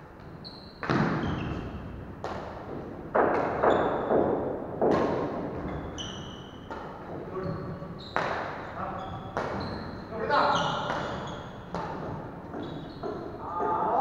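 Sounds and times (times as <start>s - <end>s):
shoes squeaking on wooden court: 0.2s - 2.8s, 3.5s - 4.6s, 5.2s - 13.9s
racket hitting shuttlecock: 0.2s - 7.3s, 7.9s - 10.0s, 10.6s - 13.4s.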